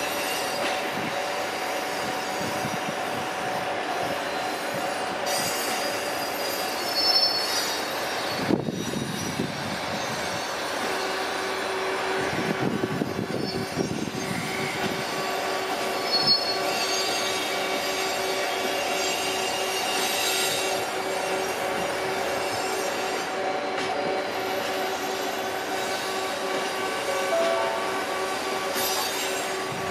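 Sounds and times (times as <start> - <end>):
train rumble: 0.0 - 29.9
train wheels squealing on rails: 0.0 - 29.9.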